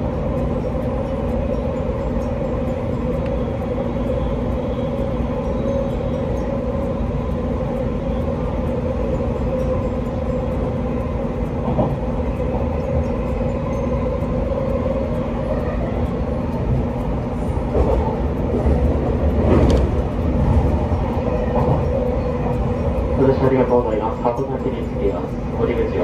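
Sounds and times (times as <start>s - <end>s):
constant electric hum: 0.0s - 26.0s
train clatter: 0.0s - 26.0s
train wheels rumbling on rail: 0.0s - 26.0s.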